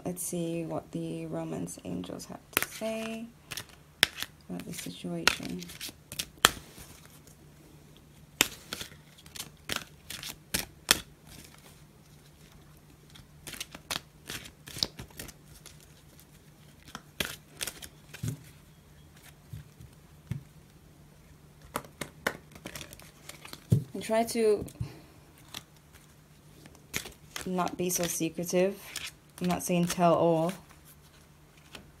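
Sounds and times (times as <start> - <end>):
faint low hum: 0.0 - 32.0
cards being shuffled: 2.6 - 7.4, 8.4 - 20.5, 21.6 - 24.0, 25.4 - 31.9.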